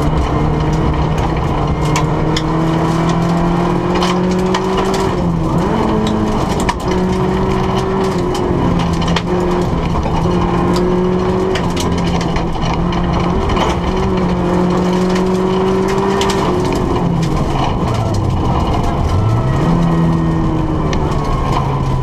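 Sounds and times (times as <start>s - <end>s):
gravel ticking against car: 0.0s - 22.0s
rally car engine at high revs: 0.0s - 22.0s.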